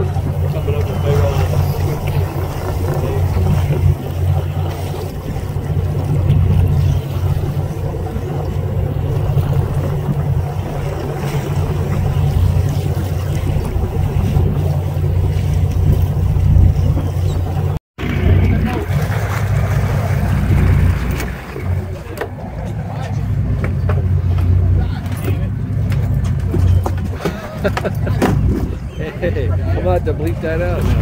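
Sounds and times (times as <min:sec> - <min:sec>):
boat engine droning: 0:00.0 - 0:31.0
water noise: 0:00.0 - 0:31.0
wind: 0:00.0 - 0:31.0.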